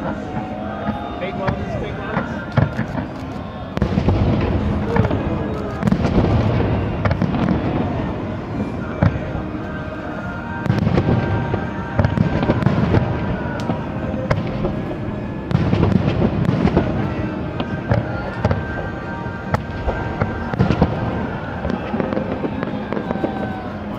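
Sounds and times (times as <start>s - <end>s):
fireworks booming and crackling: 0.0s - 23.9s.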